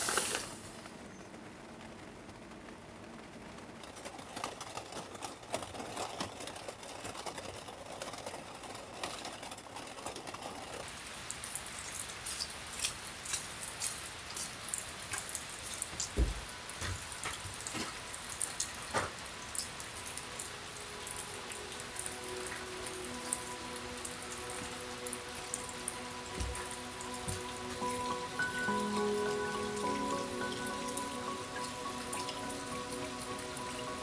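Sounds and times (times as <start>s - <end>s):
heavy raindrops hitting: 0.0s - 34.0s
steady rain: 0.0s - 34.0s.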